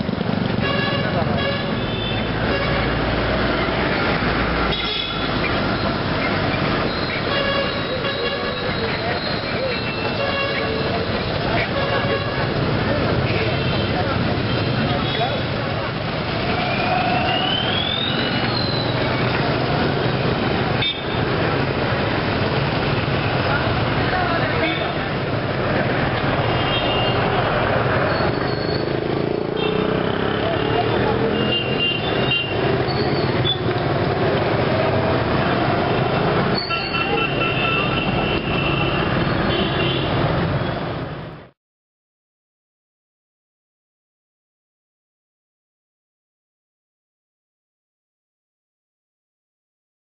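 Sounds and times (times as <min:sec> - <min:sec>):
motorcycle engines passing: 0:00.0 - 0:41.4
tyres on the road: 0:00.0 - 0:41.6.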